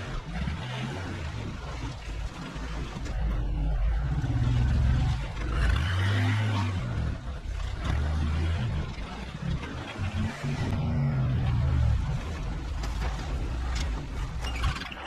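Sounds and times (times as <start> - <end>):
truck engine running: 1.6 - 15.0.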